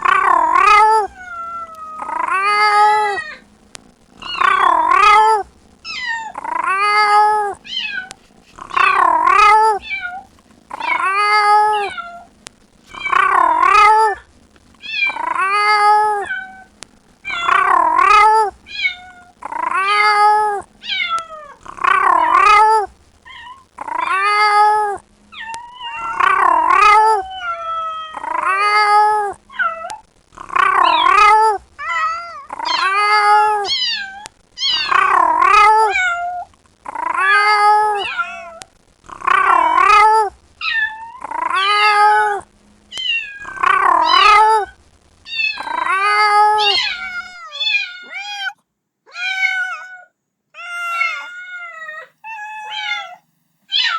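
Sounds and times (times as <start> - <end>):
kitten meowing: 0.0 - 3.5, 4.2 - 12.3, 12.9 - 14.2, 14.8 - 24.7, 25.4 - 30.0, 30.7 - 38.7, 39.4 - 53.9.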